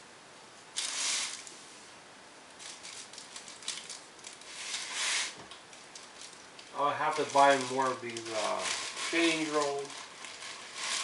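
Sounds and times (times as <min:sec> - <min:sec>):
wrapper rustling and crinkling: 0:00.8 - 0:01.5, 0:02.6 - 0:11.0.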